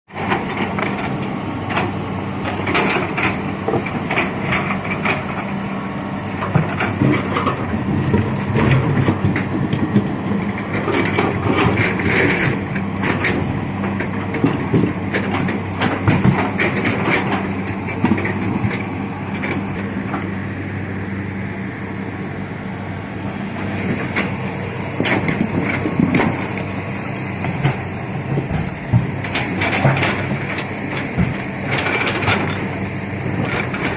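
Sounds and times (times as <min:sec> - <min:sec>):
excavator running: 0:00.1 - 0:33.9.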